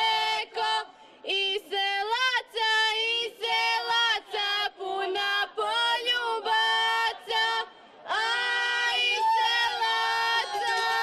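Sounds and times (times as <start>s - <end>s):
women singing folk song: 0.0s - 11.0s.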